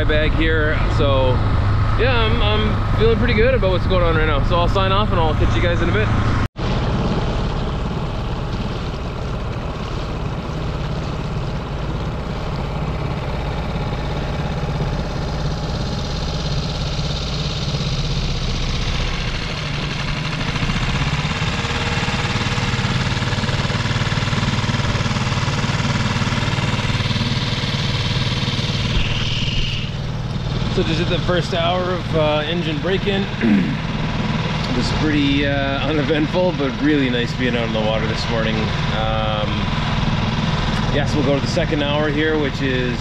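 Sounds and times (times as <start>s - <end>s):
outboard engine chugging: 0.0s - 43.0s.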